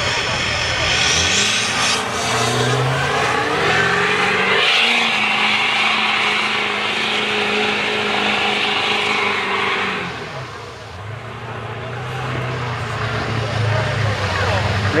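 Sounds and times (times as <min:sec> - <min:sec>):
diesel truck engine at high revs: 0:00.0 - 0:15.0.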